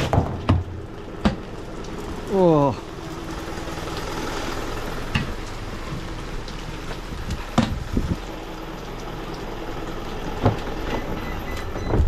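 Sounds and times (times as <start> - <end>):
heavy rain on wet street: 0.0 - 12.0
truck diesel engine idling: 0.6 - 12.0.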